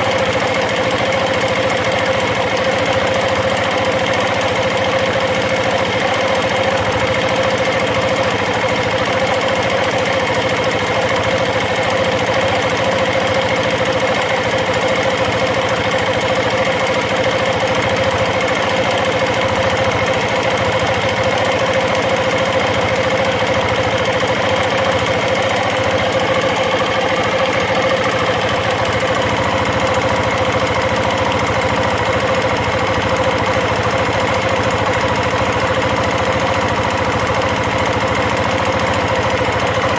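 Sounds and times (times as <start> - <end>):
motorcycle engine idling with ticking: 0.0 - 39.9.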